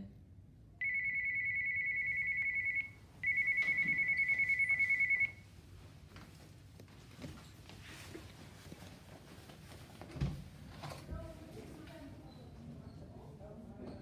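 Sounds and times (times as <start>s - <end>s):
faint footsteps and shuffling: 2.0s - 14.0s.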